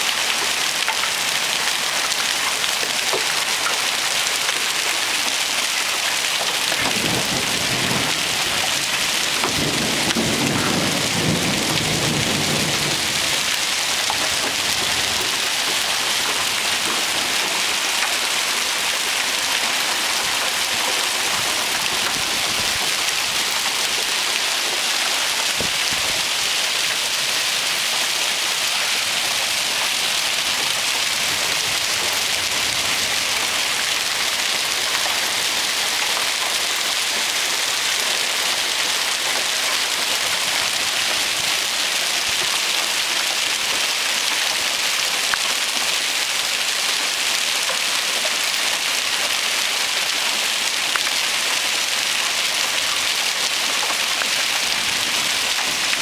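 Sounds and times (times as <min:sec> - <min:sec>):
heavy rain and hail: 0:00.0 - 0:56.0.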